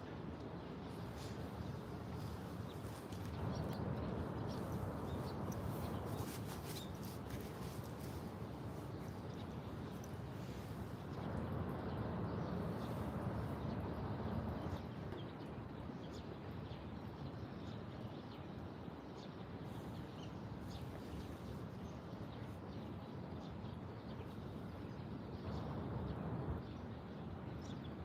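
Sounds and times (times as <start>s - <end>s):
small birds chirping: 0.6s - 28.0s.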